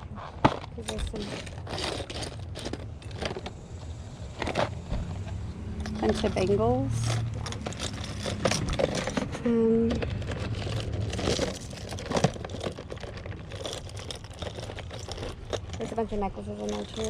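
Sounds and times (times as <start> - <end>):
rustling: 0.0 - 17.0
jewelry clinking: 0.7 - 3.4, 5.8 - 17.0.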